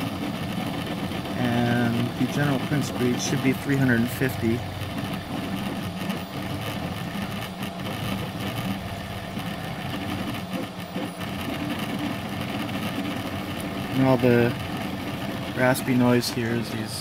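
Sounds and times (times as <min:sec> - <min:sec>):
three-d printer fluttering mechanical noise: 0:00.0 - 0:17.0.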